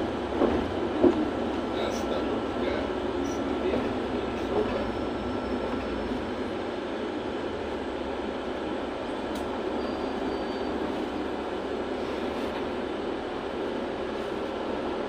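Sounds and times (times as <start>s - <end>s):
bus cabin engine hum: 0.0s - 15.0s.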